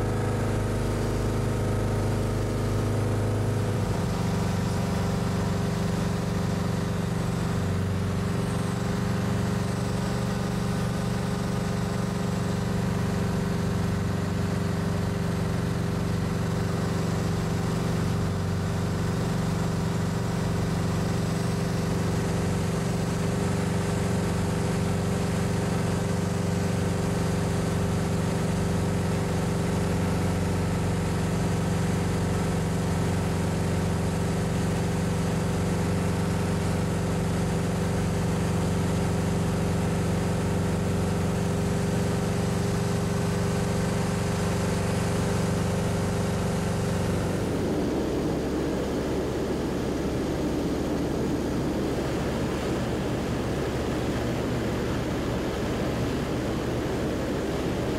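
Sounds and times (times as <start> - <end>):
propeller aircraft engine droning: 0.0 - 57.9.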